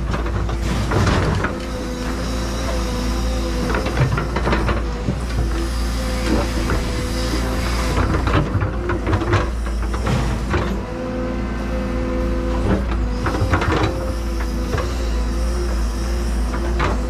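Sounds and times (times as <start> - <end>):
excavator engine drone: 0.0 - 17.0.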